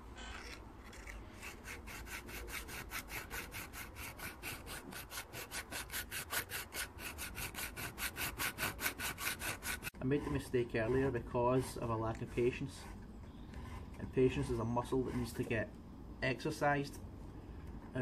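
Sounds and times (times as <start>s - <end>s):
hand file rasping on steel: 0.2s - 15.7s.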